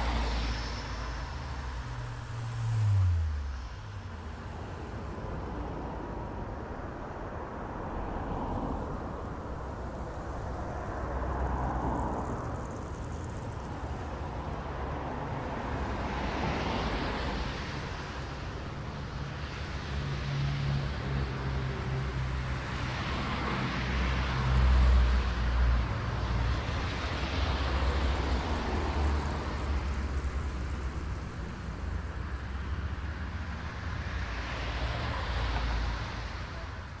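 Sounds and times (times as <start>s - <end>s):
cars passing: 0.0s - 37.0s
low traffic rumble: 0.0s - 37.0s.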